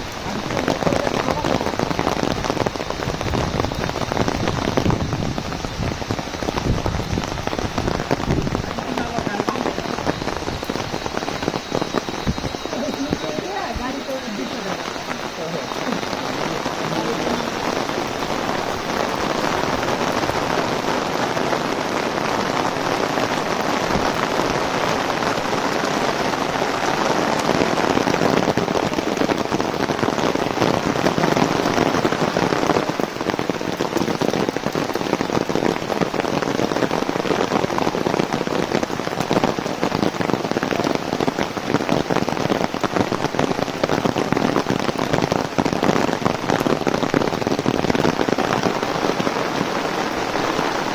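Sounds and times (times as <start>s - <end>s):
heavy rain on an umbrella: 0.0s - 50.9s.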